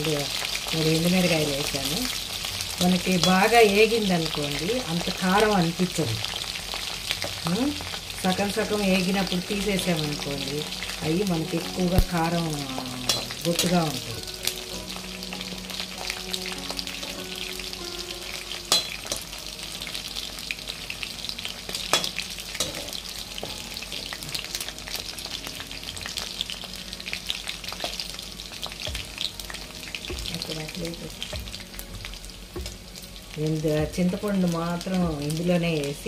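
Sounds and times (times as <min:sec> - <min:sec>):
chillies sizzling in hot oil: 0:00.0 - 0:36.0.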